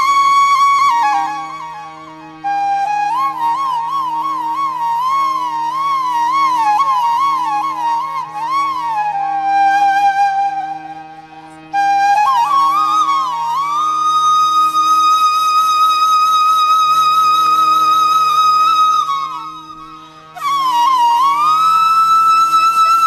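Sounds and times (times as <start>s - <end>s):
flute playing slow melody: 0.0s - 23.0s.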